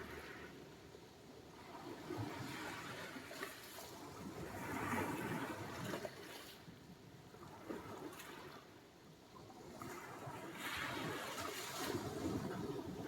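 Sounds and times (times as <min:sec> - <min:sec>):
small waves washing ashore: 0:00.0 - 0:00.8, 0:01.5 - 0:08.8, 0:09.5 - 0:13.0.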